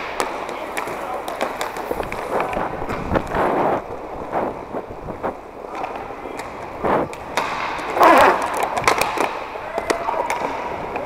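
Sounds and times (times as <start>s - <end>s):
skate wheels rolling and scraping: 0.0s - 11.0s.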